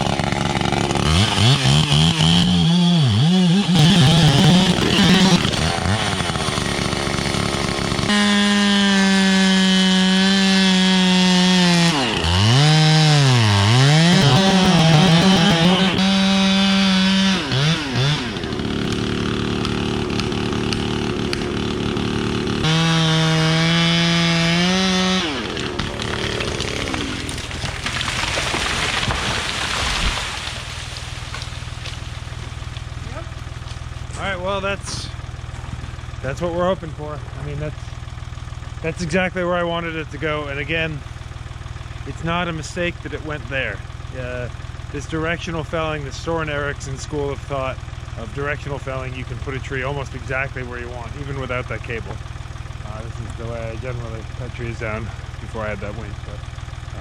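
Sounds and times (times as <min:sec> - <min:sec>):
chainsaw cutting and revving: 0:00.0 - 0:57.0.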